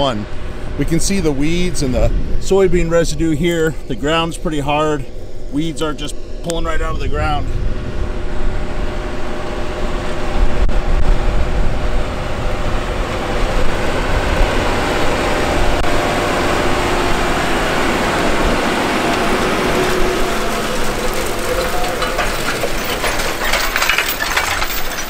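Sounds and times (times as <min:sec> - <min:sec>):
tractor diesel engine rumbling: 0:00.0 - 0:25.0.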